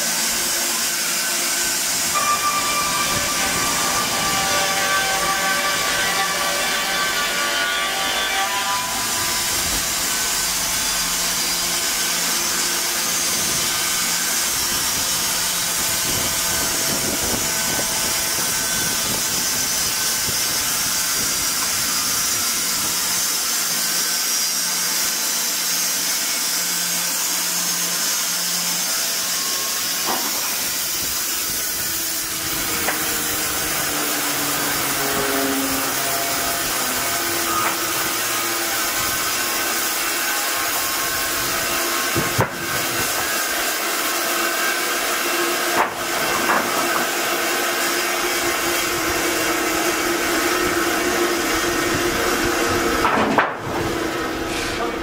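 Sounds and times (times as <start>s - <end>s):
band sawmill sawing log: 0.0s - 55.0s.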